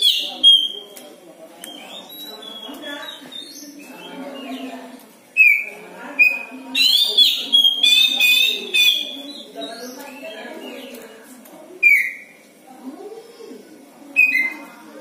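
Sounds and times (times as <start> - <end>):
low background murmur: 0.0 - 15.0.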